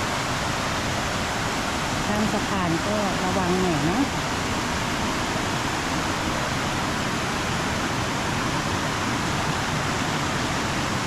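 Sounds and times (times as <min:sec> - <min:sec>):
stream flowing fast over rocks: 0:00.0 - 0:11.0.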